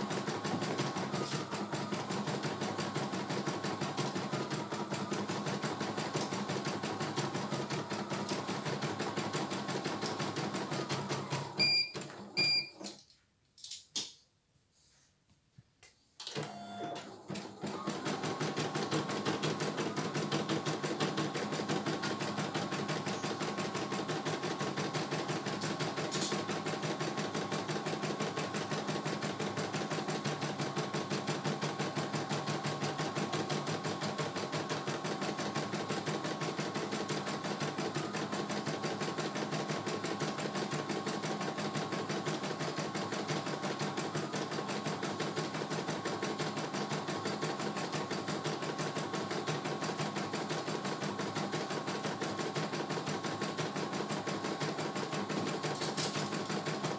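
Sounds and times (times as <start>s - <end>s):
embroidery machine stitching: 0.0s - 12.7s, 16.3s - 56.9s.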